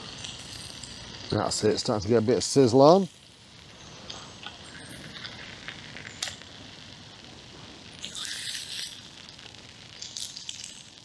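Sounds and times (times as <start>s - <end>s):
burger patties sizzling in a pan: 0.0s - 11.0s
wood fire crackling and popping: 0.0s - 11.0s.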